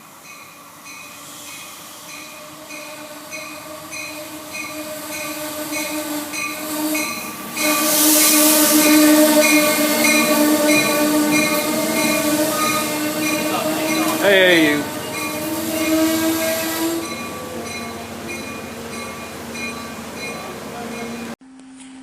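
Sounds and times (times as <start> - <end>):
train passing: 0.0 - 21.4
wheel and rail noise: 0.0 - 22.0
pulsing ringing: 2.2 - 21.4
steady tones: 2.2 - 21.4.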